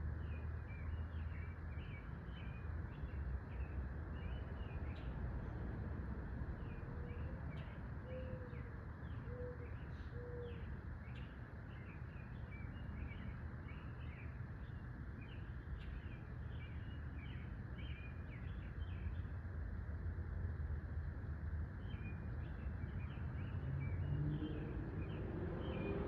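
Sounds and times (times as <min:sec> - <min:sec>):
low outdoor background rumble: 0:00.0 - 0:26.0.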